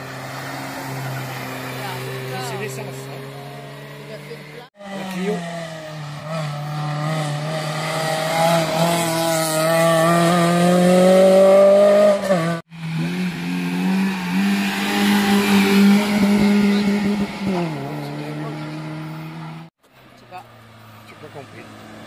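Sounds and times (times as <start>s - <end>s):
rally car engines accelerating: 0.0s - 19.7s.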